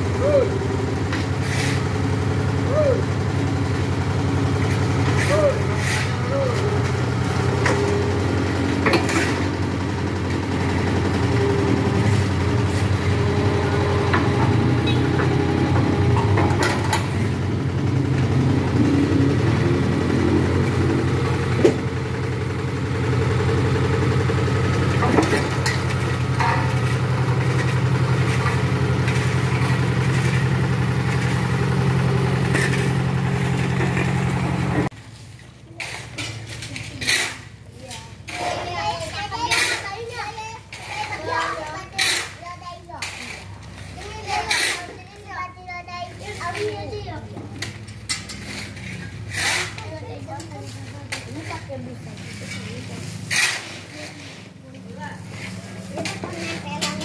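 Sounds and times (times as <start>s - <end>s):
road roller diesel engine: 0.0s - 57.0s.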